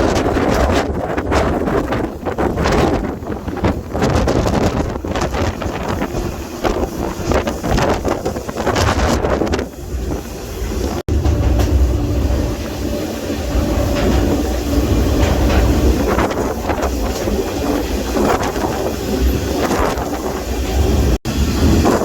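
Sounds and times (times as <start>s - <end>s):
knocks and rattles of train cars: 0.0s - 22.0s
train low rumble: 0.0s - 22.0s.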